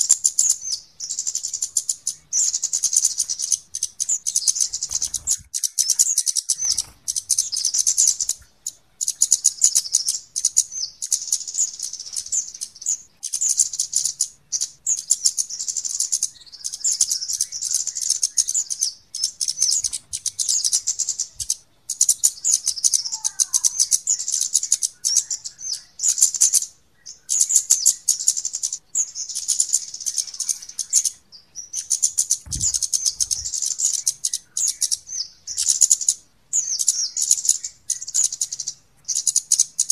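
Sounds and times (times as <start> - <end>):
high-pitched ticking bird chirps: 0.0 - 39.9.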